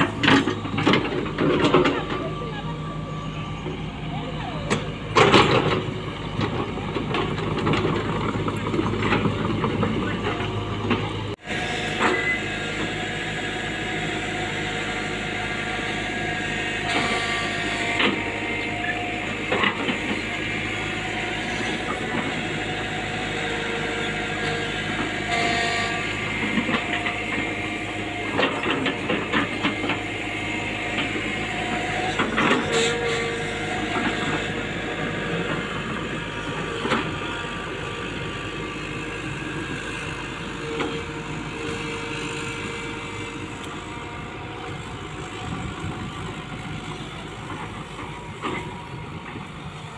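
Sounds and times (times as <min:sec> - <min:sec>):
excavator engine hum: 0:00.0 - 0:49.9.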